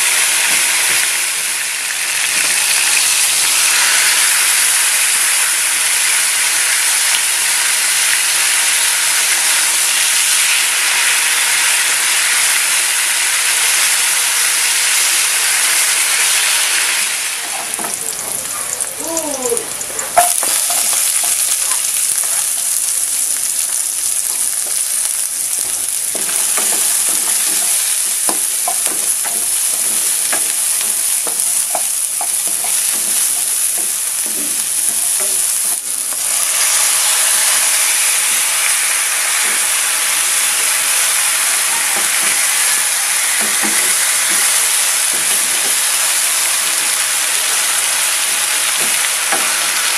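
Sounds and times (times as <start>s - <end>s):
garlic and onions sizzling: 0.0s - 49.9s
meat sizzling in a pan: 0.0s - 49.9s.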